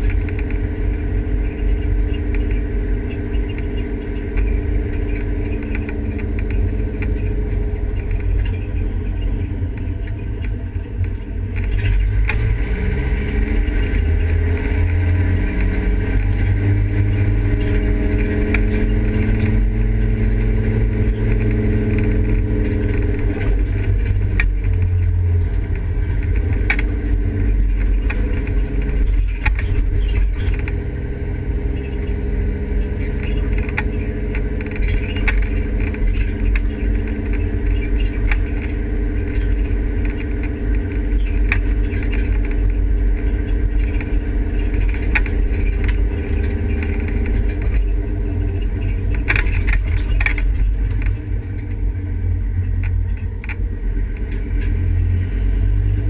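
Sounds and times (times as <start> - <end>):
car engine running at low revs: 0.0 - 56.0
clicks and rattles: 0.0 - 56.0.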